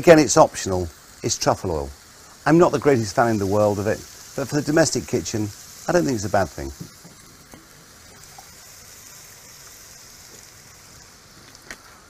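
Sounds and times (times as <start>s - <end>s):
mushrooms sizzling in a frying pan: 0.0s - 12.0s.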